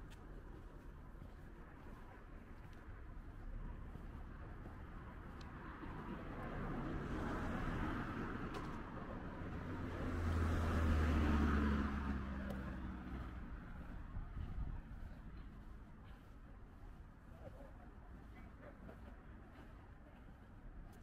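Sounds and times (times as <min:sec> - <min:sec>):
cars passing: 0:00.0 - 0:21.0.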